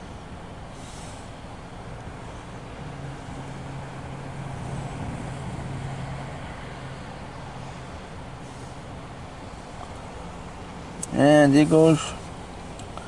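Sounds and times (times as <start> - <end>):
train passing rumble: 0.0 - 12.8
low locomotive engine drone: 0.0 - 13.0.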